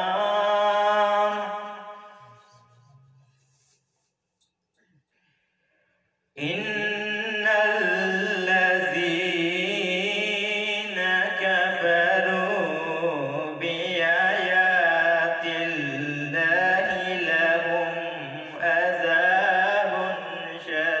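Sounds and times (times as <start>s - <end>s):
man chanting recitation: 0.0s - 3.7s, 6.4s - 21.0s.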